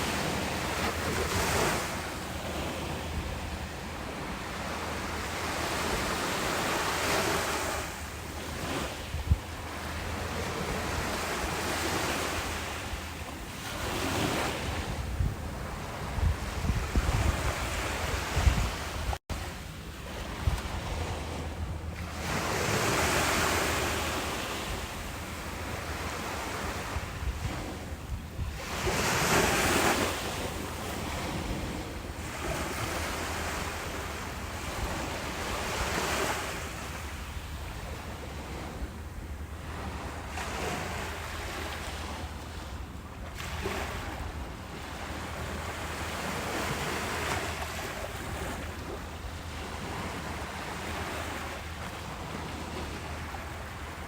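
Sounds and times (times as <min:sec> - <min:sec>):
ocean waves breaking: 0:00.0 - 0:54.0
wind rumble on microphone: 0:00.0 - 0:54.0.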